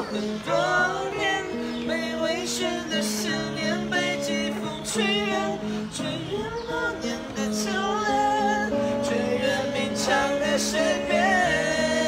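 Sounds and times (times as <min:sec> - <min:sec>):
acoustic guitar: 0:00.0 - 0:12.0
group of voices singing: 0:00.0 - 0:12.0.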